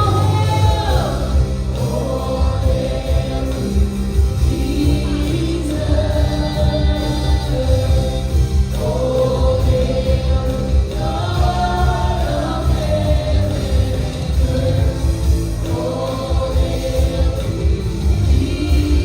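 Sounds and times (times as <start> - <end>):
band with pulsing bass: 0.0 - 19.0
group singing worship music: 0.0 - 19.0.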